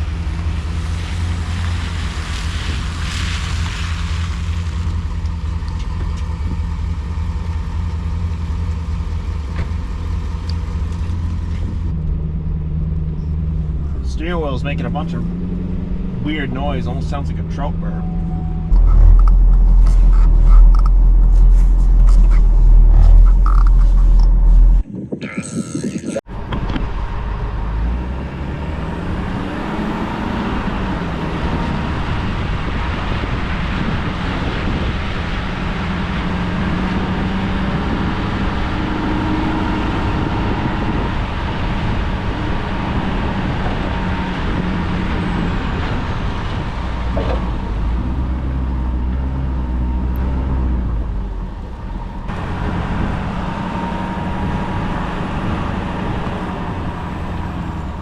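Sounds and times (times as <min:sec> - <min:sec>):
heavy low rumble: 0:00.0 - 0:58.0
truck engine and road noise: 0:00.0 - 0:58.0.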